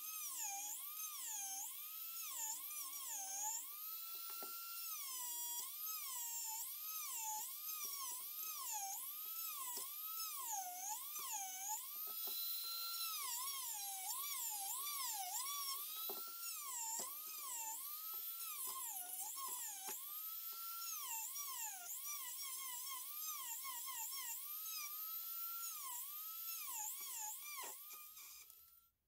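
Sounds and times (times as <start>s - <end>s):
rotary tool grinding wood: 0.0s - 28.9s.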